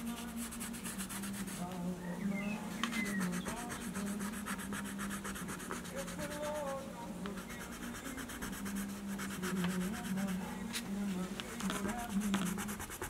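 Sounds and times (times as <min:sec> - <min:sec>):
pencil scratching on paper: 0:00.0 - 0:01.6, 0:02.9 - 0:13.0.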